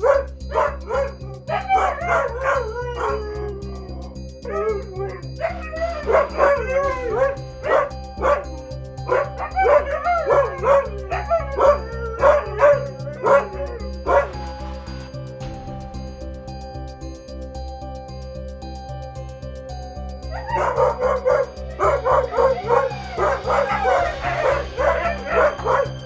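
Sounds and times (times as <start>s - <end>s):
dogs yipping and whining: 0.0s - 15.2s, 20.2s - 26.0s
background music: 0.0s - 26.0s.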